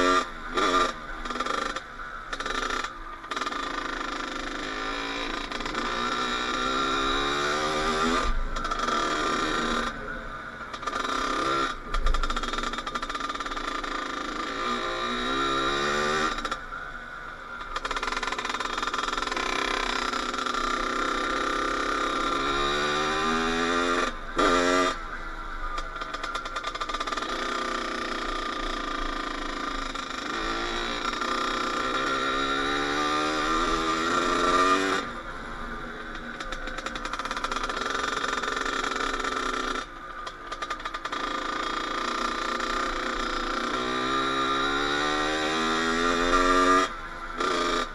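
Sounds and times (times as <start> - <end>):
dirt bike engine revving: 0.0 - 16.7, 17.7 - 47.9.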